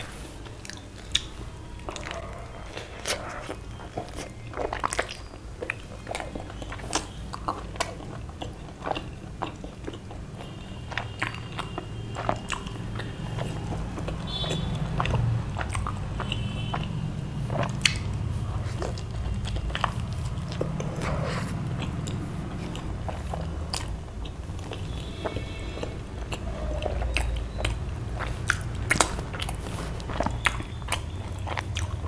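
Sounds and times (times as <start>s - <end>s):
person chewing with wet smacks: 0.0s - 32.0s.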